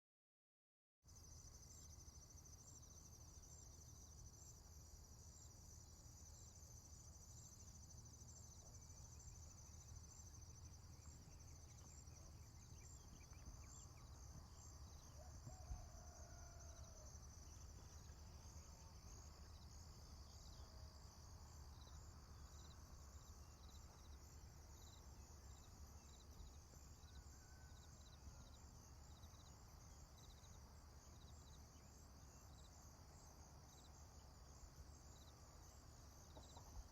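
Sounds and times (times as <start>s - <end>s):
crickets chirping: 1.1s - 36.9s.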